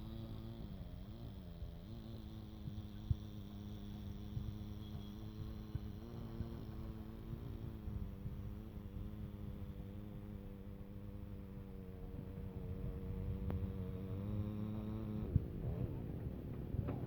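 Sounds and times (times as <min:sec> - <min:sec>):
machine engine humming: 0:00.0 - 0:16.1.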